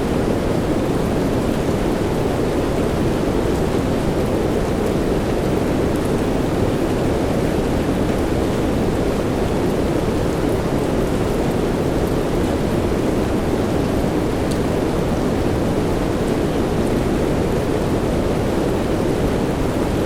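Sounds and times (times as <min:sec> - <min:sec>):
steady soft rain: 0:00.0 - 0:20.0.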